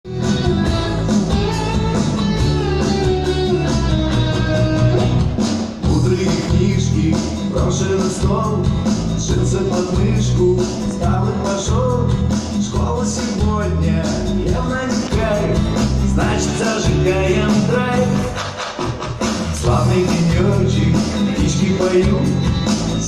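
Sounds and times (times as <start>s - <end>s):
live band playing: 0.0s - 23.0s.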